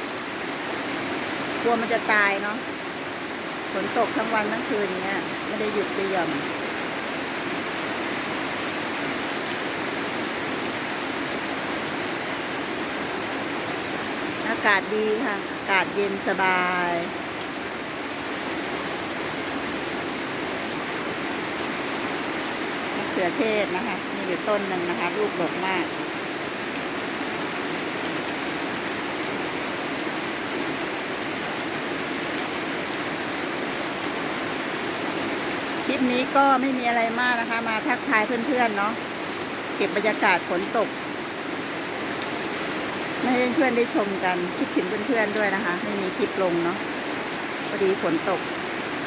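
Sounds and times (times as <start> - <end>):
heavy rain on ground and plants: 0.0 - 49.0.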